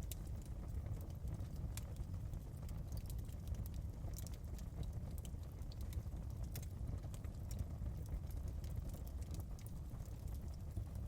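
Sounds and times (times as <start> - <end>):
fire crackles and pops: 0.0 - 11.0
fire low rumble: 0.0 - 11.0.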